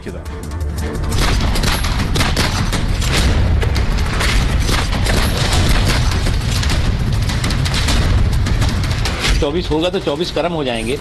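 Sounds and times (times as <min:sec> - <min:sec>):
background music: 0:00.0 - 0:11.0
gunfire-like shots and booms: 0:01.1 - 0:10.1.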